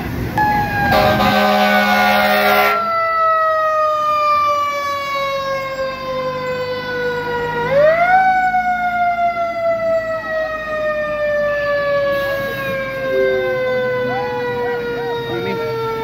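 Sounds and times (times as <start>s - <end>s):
fire truck siren winding: 0.4s - 16.0s.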